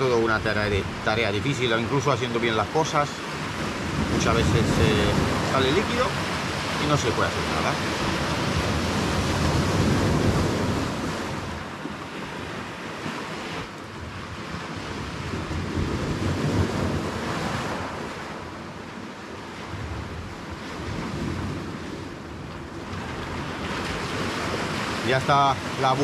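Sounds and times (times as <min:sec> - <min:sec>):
sea waves washing: 0:00.0 - 0:26.0
wind buffeting microphone: 0:00.0 - 0:26.0.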